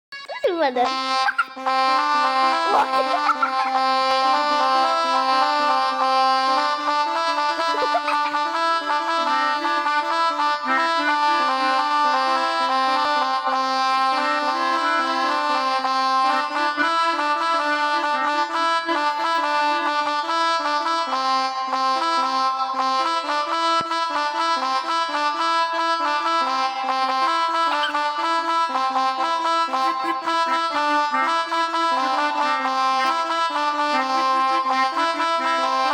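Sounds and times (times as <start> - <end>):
melodica app playing tune: 0.1 - 35.9.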